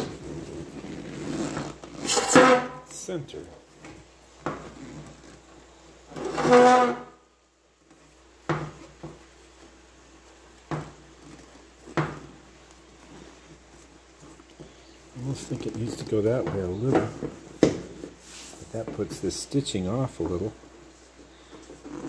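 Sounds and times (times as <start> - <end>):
vinyl cover rustling: 0.0 - 6.6, 7.8 - 22.0.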